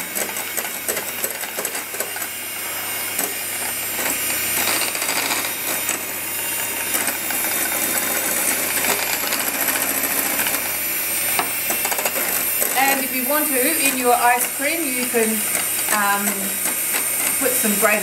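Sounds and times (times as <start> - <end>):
electric mixer whipping: 0.0 - 18.0.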